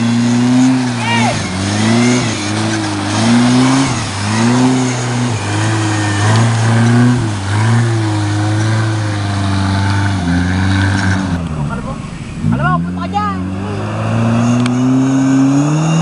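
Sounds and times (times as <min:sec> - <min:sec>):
water splashing: 0:00.0 - 0:15.2
buggy engine revving: 0:00.0 - 0:16.0.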